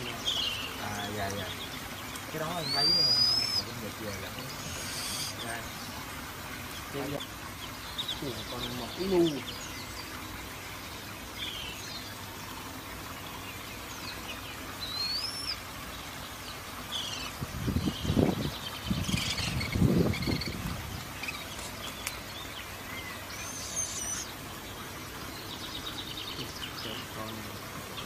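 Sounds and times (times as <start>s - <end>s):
small birds chirping: 0.0s - 28.0s
steady hiss: 0.0s - 28.0s.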